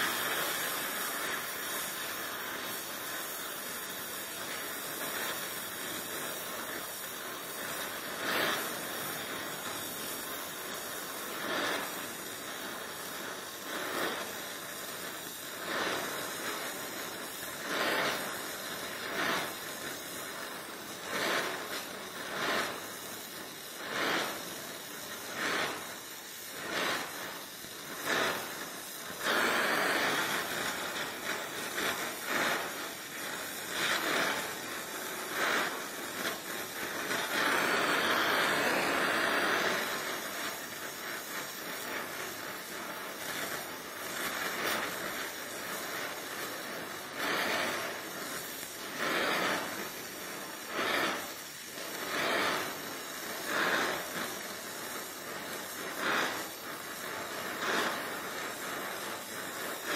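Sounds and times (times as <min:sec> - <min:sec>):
welding torch flame hissing: 0:00.0 - 0:59.9.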